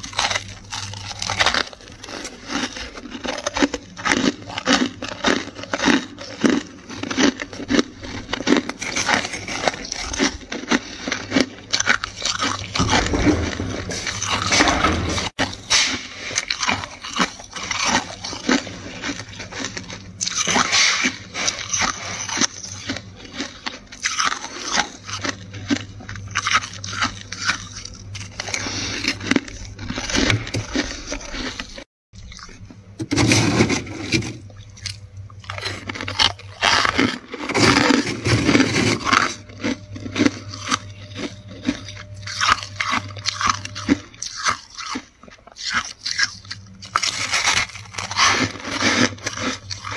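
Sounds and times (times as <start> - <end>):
frost being chewed: 0.0 - 33.0, 34.2 - 49.9.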